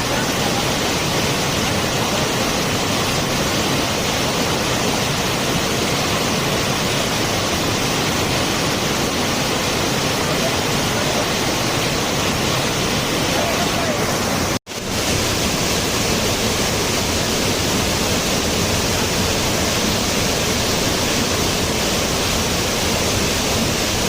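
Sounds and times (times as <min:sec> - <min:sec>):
waterfall splashing: 0:00.0 - 0:24.0.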